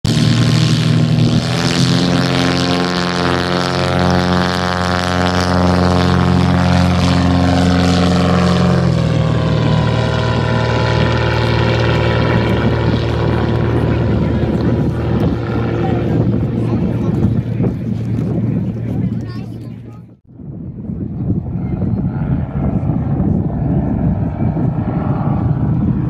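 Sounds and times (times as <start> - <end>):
propeller plane engine: 0.0 - 26.0.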